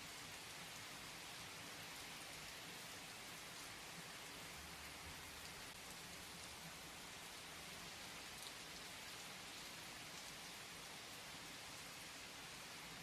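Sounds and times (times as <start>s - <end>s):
quiet rain falling: 0.0s - 13.0s.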